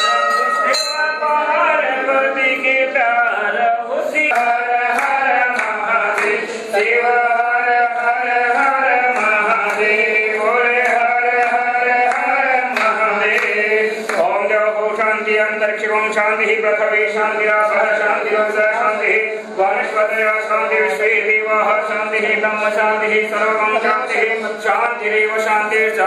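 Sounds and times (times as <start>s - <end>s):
men chanting: 0.0s - 26.0s.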